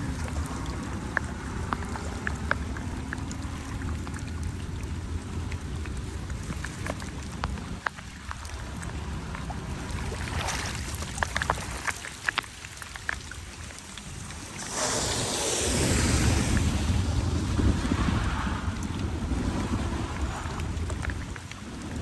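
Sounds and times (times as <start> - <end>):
floodwater running at drain: 0.0 - 22.0.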